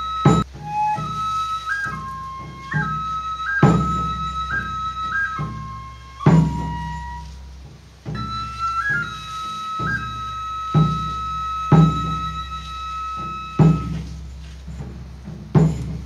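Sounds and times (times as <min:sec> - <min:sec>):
bamboo flute melody: 0:00.0 - 0:16.0
deep drum strikes: 0:00.2 - 0:09.2, 0:09.8 - 0:12.6, 0:13.2 - 0:16.0.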